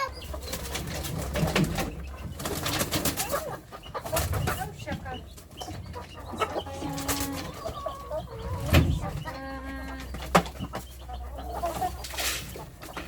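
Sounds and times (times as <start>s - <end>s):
drawn-out hen calls: 0.0s - 13.0s
hens clucking: 0.0s - 13.0s.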